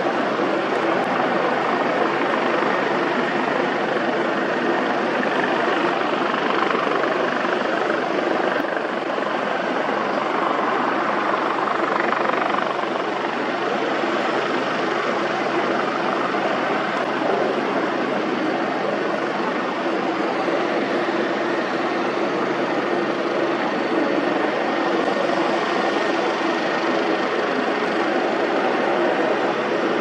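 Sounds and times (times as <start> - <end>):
aircraft engines running: 0.0 - 30.0.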